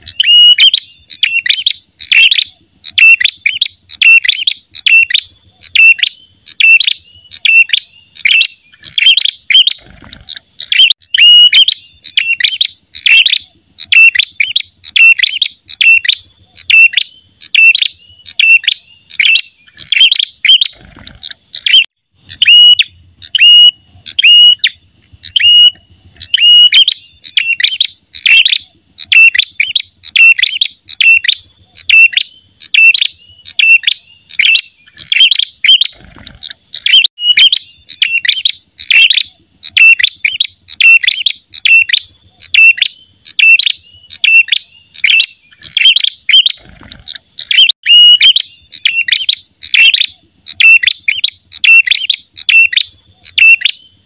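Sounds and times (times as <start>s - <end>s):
bird song with sharp repeated notes: 0.0s - 54.0s.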